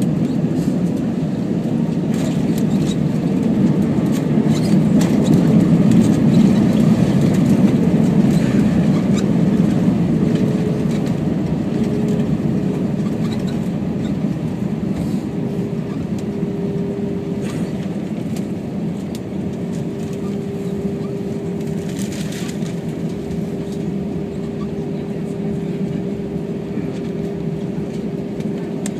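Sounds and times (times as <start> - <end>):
aircraft engine and rolling rumble: 0.0 - 28.9
steady engine hum: 0.0 - 28.9.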